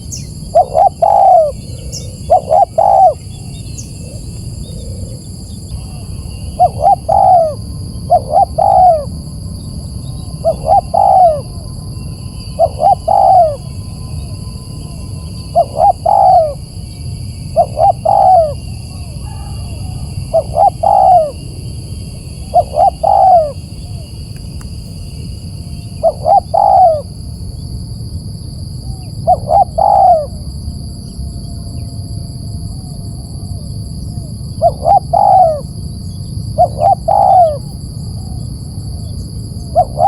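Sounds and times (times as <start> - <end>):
dove cooing: 0.0 - 9.2, 10.1 - 11.8, 12.4 - 24.2, 26.0 - 27.2, 28.8 - 30.4, 32.8 - 40.0.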